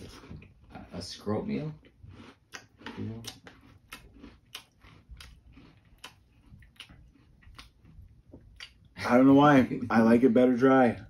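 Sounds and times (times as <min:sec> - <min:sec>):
person chewing cereal: 0:00.0 - 0:09.0.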